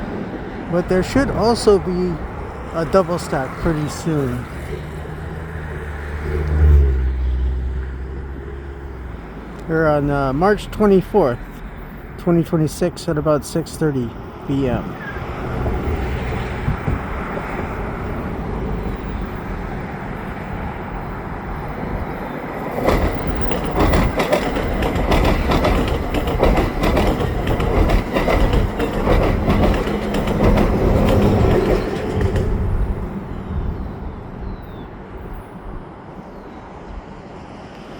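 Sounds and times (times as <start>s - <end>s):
wheels clickety-clack on rails: 0.0s - 35.5s
passing train rumble: 0.0s - 37.9s.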